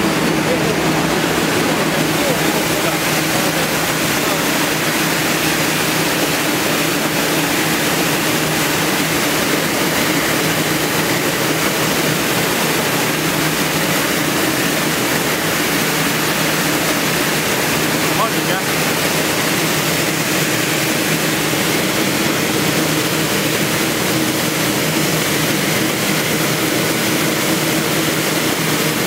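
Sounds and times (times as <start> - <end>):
washing machine motor hum: 0.0 - 29.0
water spraying in turning drum: 0.0 - 29.0.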